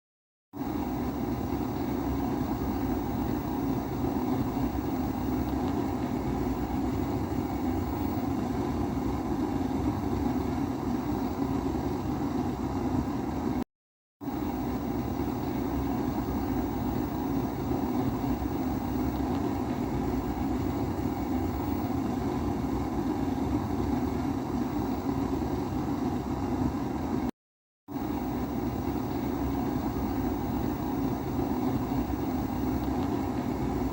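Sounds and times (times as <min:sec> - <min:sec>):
pressure stove burner roaring: 0:00.6 - 0:13.6, 0:14.2 - 0:27.3, 0:27.9 - 0:33.9.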